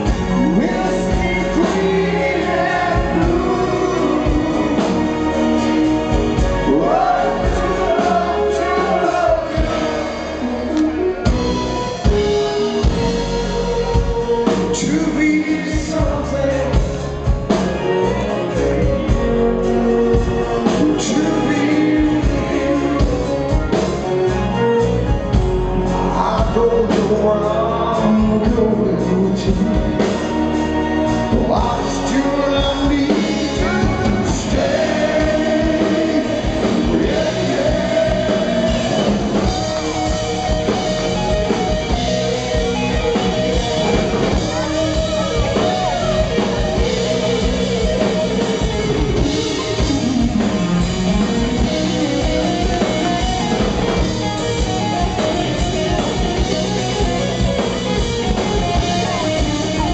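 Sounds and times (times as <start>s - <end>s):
lead vocal singing: 0.0s - 24.8s, 25.4s - 57.6s
rock band playing live: 0.0s - 59.9s.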